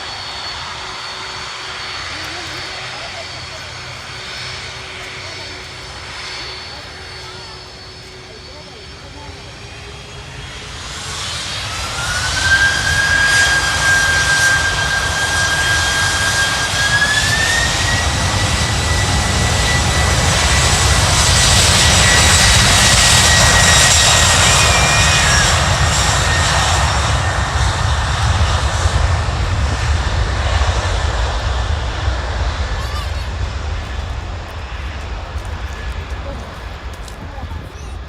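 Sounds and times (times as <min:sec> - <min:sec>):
jet engines roaring with whine: 0:00.0 - 0:38.0.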